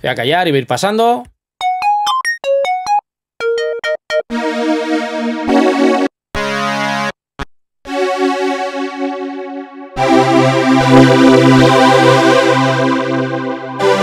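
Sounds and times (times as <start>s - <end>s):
synthesizer held chords: 1.6s - 7.2s, 7.9s - 14.0s
synthesizer plucked notes: 1.6s - 7.2s, 7.9s - 14.0s.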